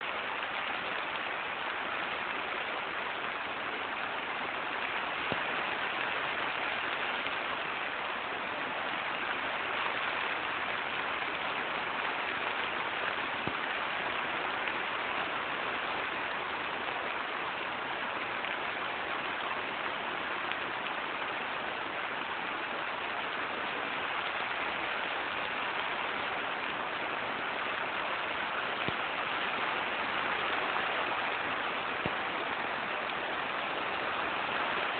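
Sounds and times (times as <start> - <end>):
rain on a greenhouse: 0.0 - 34.9.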